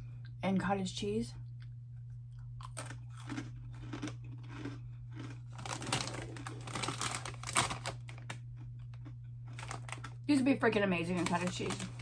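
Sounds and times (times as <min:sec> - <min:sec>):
snack bag crinkling: 0:02.4 - 0:12.0.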